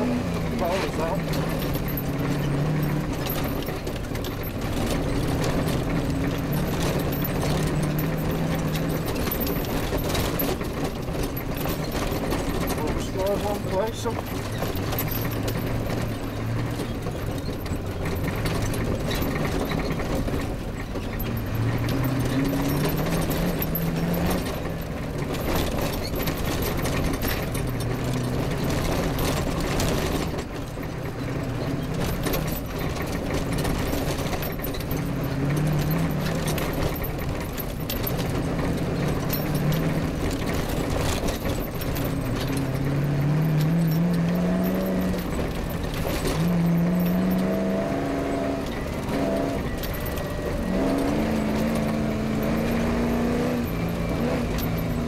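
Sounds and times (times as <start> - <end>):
knocks and rattles from bumpy ground: 0.0 - 55.0
rally car engine accelerating: 0.0 - 55.0.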